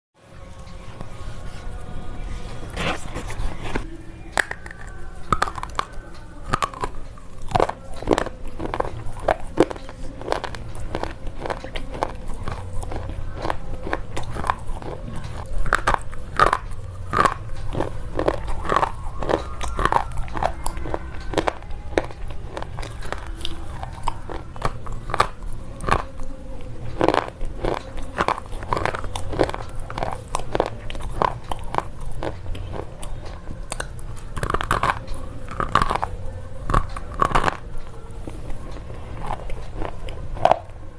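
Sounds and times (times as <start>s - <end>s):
chewing crunches and snaps: 2.6s - 40.9s.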